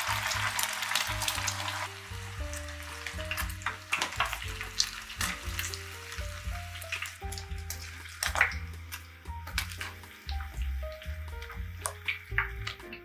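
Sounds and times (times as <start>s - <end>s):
background music with bass: 0.0s - 13.0s
egg sizzling in hot oil: 0.0s - 13.0s.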